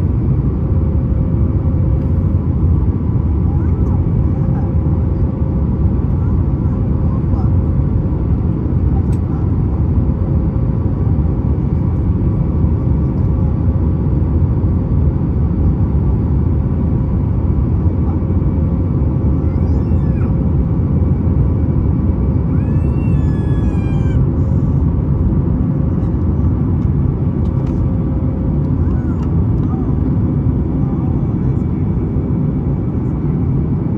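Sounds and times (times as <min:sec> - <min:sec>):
airplane engine and airflow rumble: 0:00.0 - 0:33.9.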